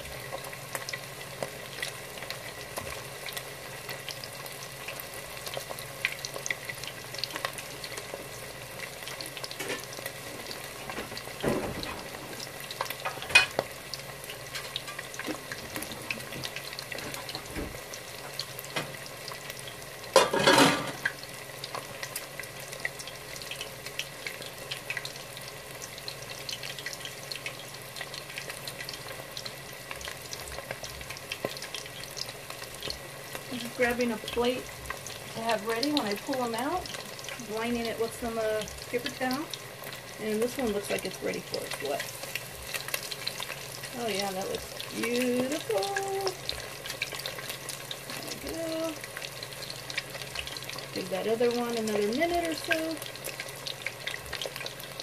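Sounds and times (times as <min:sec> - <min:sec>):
fish deep-frying in hot oil: 0:00.0 - 0:55.0.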